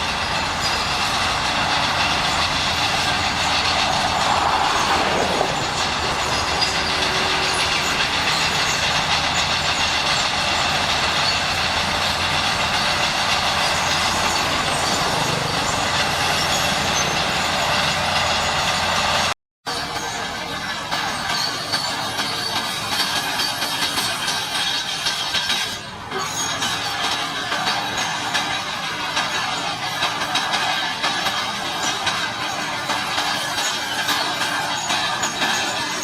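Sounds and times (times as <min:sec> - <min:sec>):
diesel engine droning: 0:00.0 - 0:36.0
steel tracks clattering: 0:00.0 - 0:36.0.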